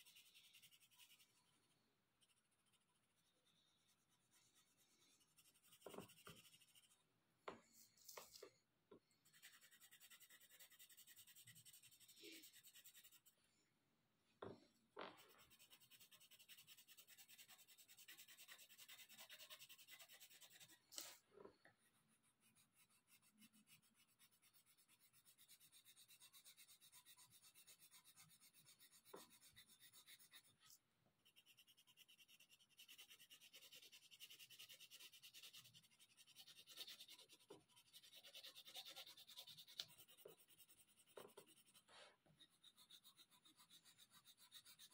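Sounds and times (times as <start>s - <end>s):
pencil scratching on paper: 0.0s - 7.0s, 9.2s - 13.4s, 15.1s - 21.2s, 21.8s - 44.9s.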